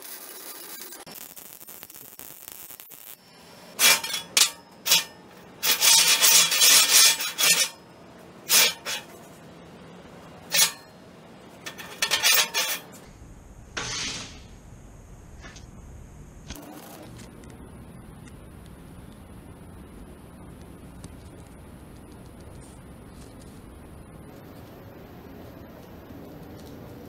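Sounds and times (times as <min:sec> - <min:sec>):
welding arc buzzing: 0:00.0 - 0:09.4, 0:10.1 - 0:26.0.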